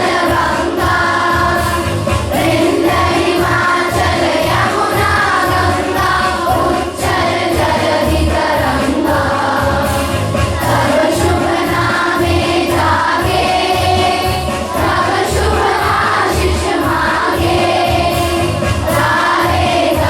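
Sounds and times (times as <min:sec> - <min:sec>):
group of voices singing: 0:00.0 - 0:20.0
instrumental music with steady beat: 0:00.0 - 0:20.0.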